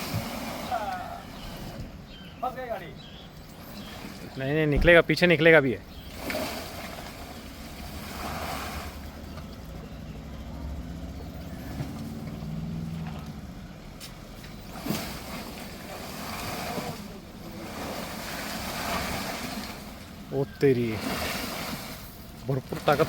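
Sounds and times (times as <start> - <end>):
tyres rumbling over rough ground: 0.0 - 23.0.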